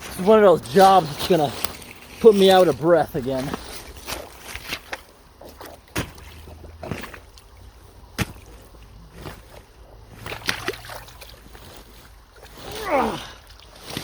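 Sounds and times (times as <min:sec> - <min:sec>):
water sloshing: 0:00.0 - 0:14.0.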